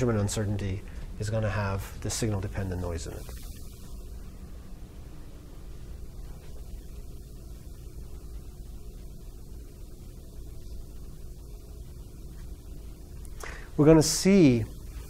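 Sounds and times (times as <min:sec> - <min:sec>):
faint hiss: 0:00.0 - 0:15.0
steady low hum: 0:00.0 - 0:15.0.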